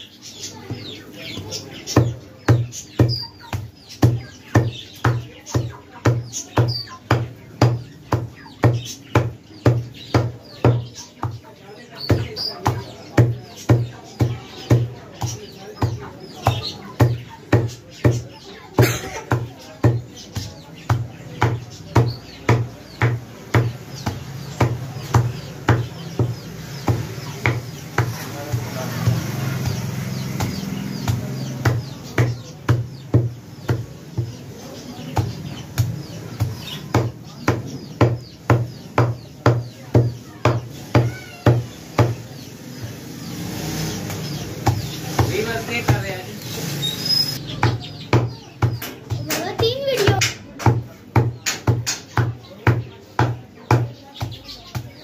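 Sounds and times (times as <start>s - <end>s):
small birds chirping: 0.0s - 55.0s
cleaver chopping on wooden block: 0.7s - 11.4s, 12.0s - 43.0s, 43.9s - 46.1s, 47.4s - 55.0s.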